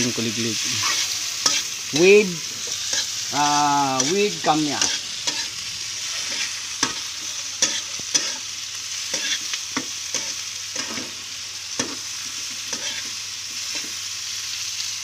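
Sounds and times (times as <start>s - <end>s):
food sizzling in a pan: 0.0s - 15.0s
metal spatula scraping a pan: 0.8s - 3.3s, 3.9s - 14.0s.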